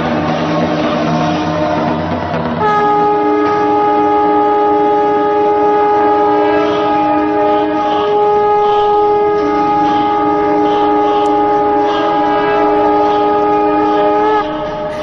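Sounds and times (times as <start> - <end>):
conch shell trumpets chord: 0.0 - 15.0.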